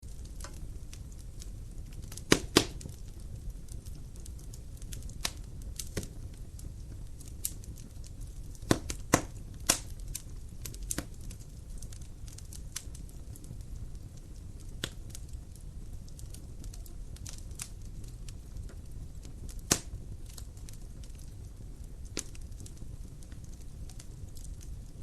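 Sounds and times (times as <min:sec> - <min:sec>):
burning wood popping: 0:00.0 - 0:25.0
campfire crackling: 0:00.0 - 0:25.0.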